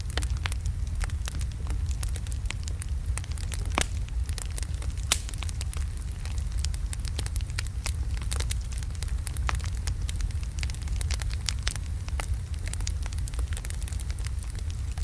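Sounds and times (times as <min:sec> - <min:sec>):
loud fire pops: 0:00.0 - 0:15.0
wood fire crackling: 0:00.0 - 0:15.0.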